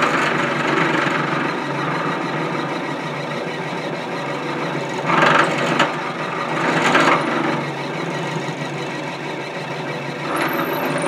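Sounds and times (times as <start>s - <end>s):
drill bit boring into wood: 0.0s - 11.0s
drill press running: 0.0s - 11.0s.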